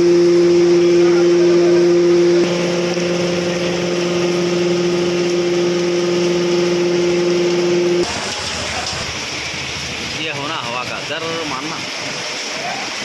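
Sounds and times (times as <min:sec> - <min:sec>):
low machine hum: 0:00.0 - 0:11.6.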